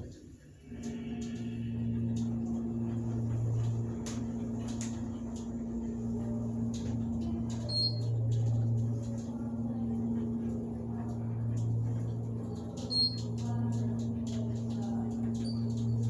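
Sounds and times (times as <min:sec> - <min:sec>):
elevator hum: 0:00.0 - 0:16.0.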